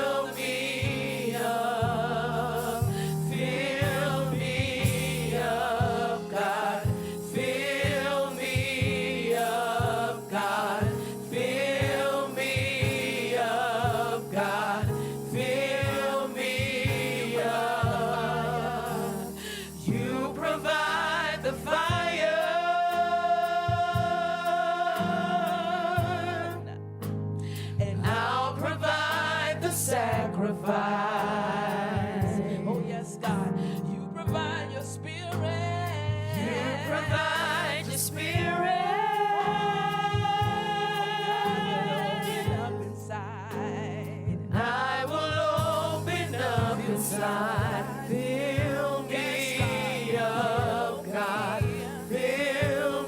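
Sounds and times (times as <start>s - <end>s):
gospel choir singing: 0.0s - 26.8s, 27.8s - 53.0s.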